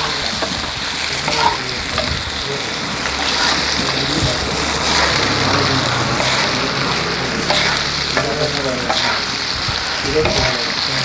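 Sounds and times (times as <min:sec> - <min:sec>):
fish deep-frying in hot oil: 0:00.0 - 0:11.0
low hum: 0:00.7 - 0:10.1.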